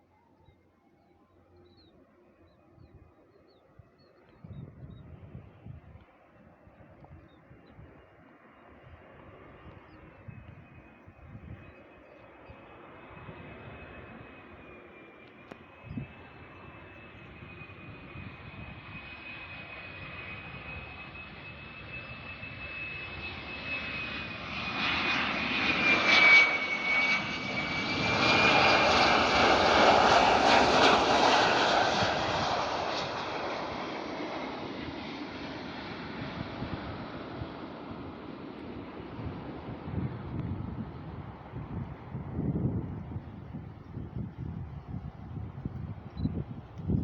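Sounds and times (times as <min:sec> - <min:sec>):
airliner engine rumble: 0:01.2 - 0:47.0
airliner engines whining: 0:01.3 - 0:47.0.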